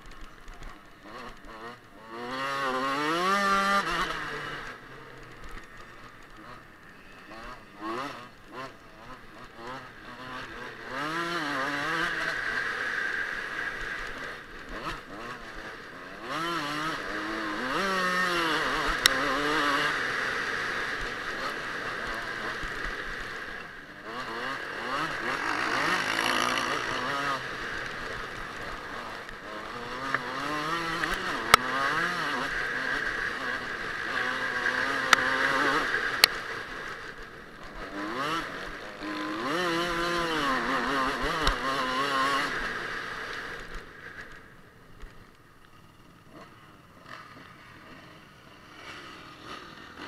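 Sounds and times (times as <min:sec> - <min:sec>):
motocross bike engine revving: 0:00.0 - 0:50.0.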